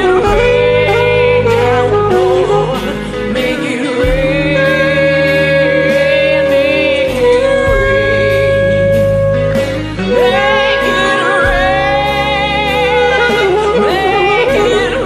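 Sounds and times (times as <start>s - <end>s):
slow blues band: 0.0s - 15.0s.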